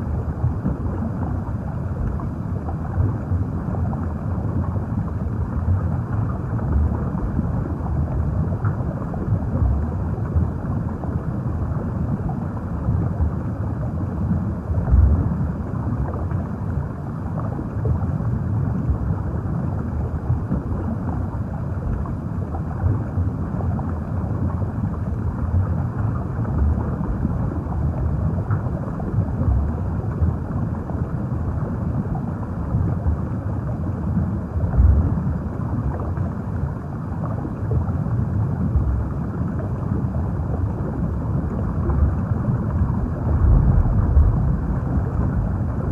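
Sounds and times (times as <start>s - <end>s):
underwater rumble and wash: 0.0s - 45.9s.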